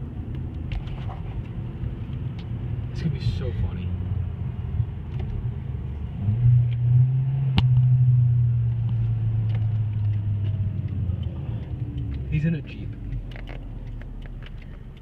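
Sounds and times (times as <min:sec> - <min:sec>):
car engine hum from cabin: 0:00.0 - 0:15.0.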